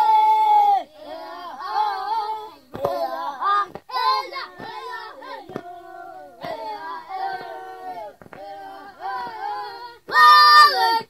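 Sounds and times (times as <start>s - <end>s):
people chanting: 0.0s - 11.0s.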